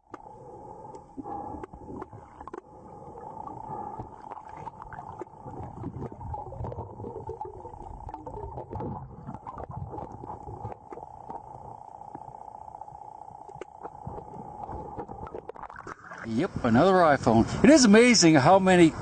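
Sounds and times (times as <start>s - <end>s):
gurgling rushing water underwater: 0.0s - 17.6s
steady hum: 0.0s - 19.0s.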